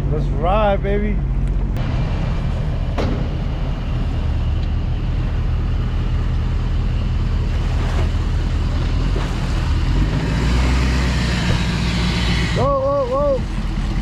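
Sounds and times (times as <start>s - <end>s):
water and wind noise: 0.0s - 14.0s.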